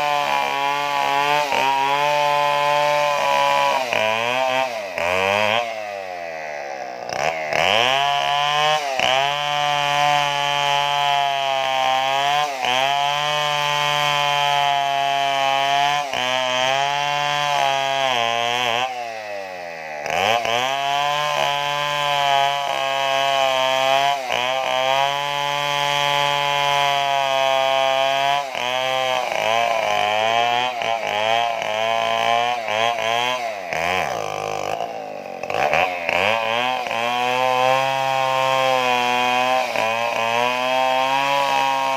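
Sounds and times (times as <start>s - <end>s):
chainsaw cutting at high revs: 0.0s - 41.9s.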